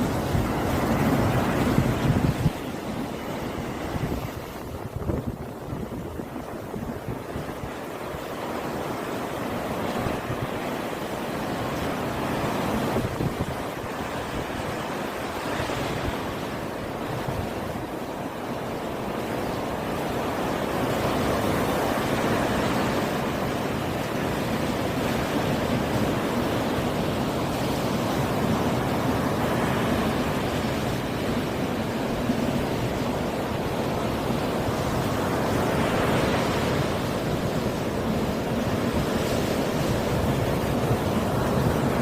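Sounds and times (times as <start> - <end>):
sea waves washing ashore: 0.0 - 42.0.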